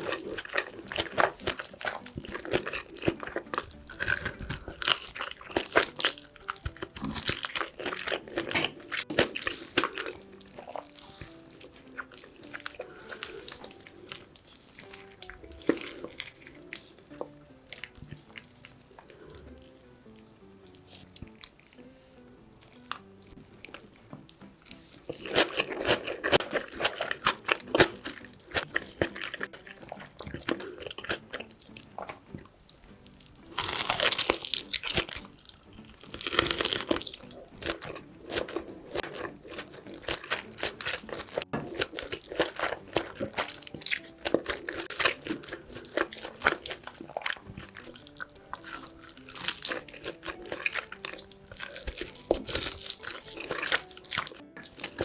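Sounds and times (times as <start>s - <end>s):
biting and chewing food: 0.0s - 55.0s.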